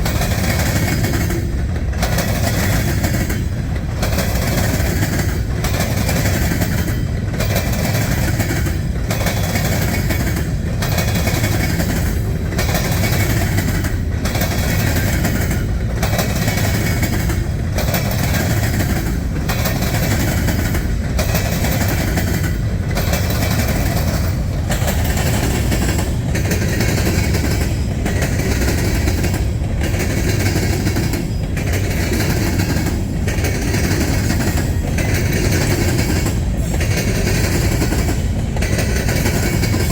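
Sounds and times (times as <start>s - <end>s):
freight cars rumbling on rails: 0.0s - 39.9s.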